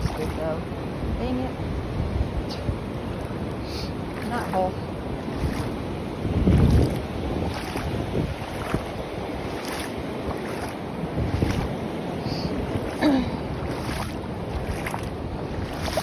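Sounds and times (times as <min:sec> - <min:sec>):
water swishing around legs: 0:00.0 - 0:00.9, 0:02.4 - 0:16.0
wind buffeting microphone: 0:00.0 - 0:16.0.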